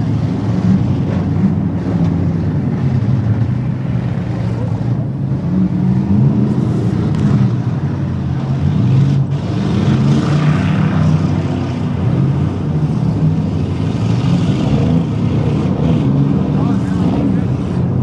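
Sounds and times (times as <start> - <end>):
car engines revving loudly: 0.0 - 18.0.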